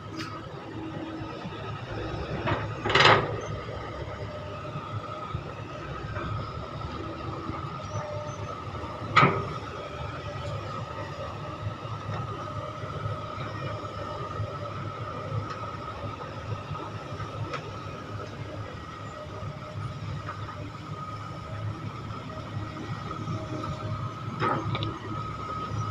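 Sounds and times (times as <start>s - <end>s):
excavator engine rumbling: 0.0s - 25.9s.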